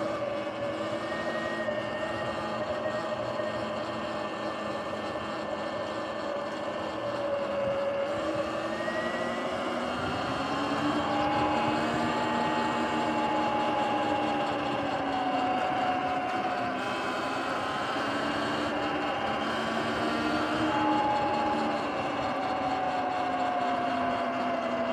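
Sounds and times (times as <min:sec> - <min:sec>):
electric motor and chain whine: 0:00.0 - 0:24.9.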